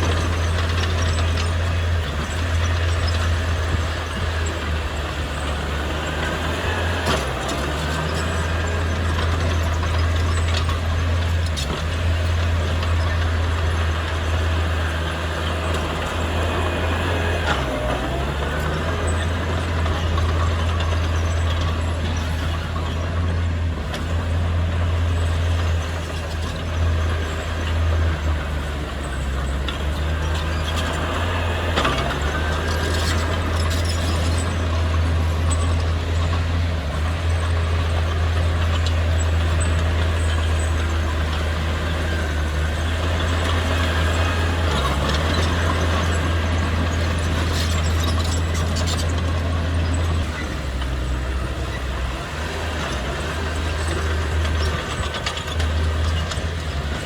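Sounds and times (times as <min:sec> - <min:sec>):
diesel engine drone: 0:00.0 - 0:57.0
machinery whine: 0:00.0 - 0:57.0.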